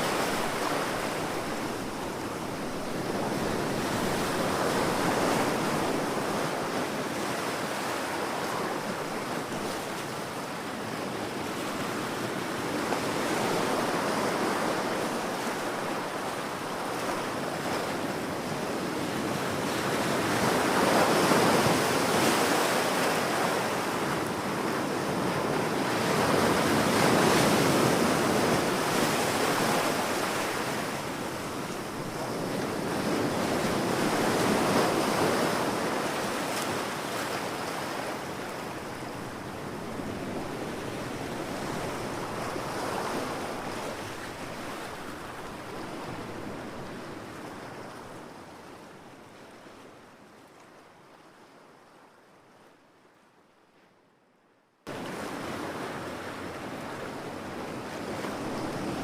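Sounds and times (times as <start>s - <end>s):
ocean surf washing onto beach: 0.0s - 49.0s, 54.9s - 59.0s.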